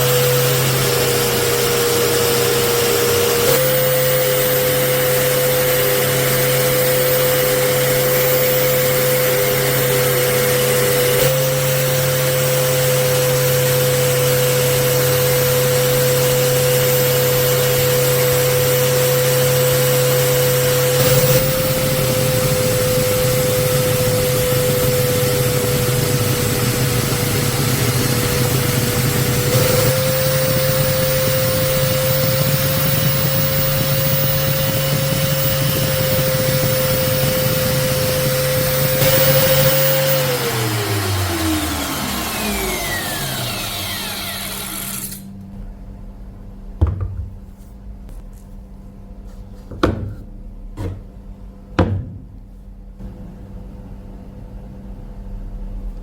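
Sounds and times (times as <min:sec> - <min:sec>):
power tool motor whining: 0:00.0 - 0:45.3.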